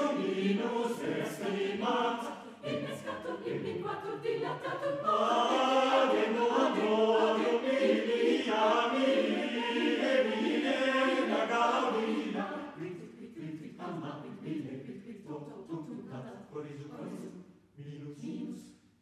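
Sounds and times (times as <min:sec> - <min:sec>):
choir singing a cappella: 0:00.0 - 0:18.8.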